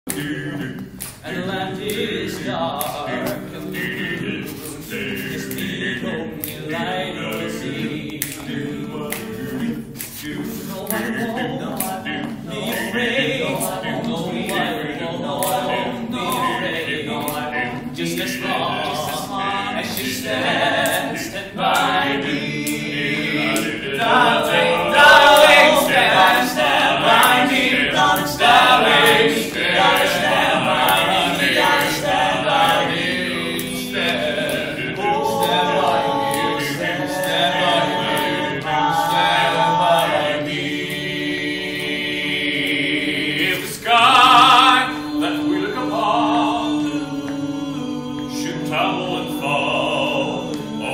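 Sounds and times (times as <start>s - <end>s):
group singing a cappella: 0.0s - 50.9s.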